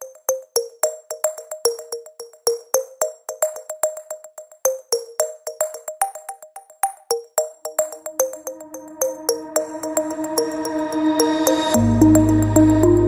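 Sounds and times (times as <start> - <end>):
light electronic music: 0.0 - 13.0.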